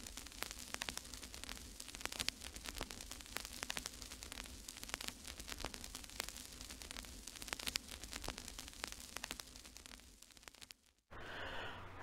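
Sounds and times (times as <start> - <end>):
static crackling: 0.0 - 11.2.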